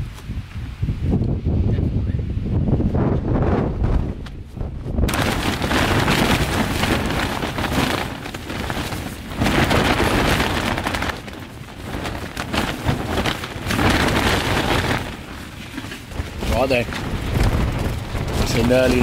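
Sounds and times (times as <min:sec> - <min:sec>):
strong wind gusting: 0:00.0 - 0:19.0
tent fabric flapping: 0:02.9 - 0:19.0.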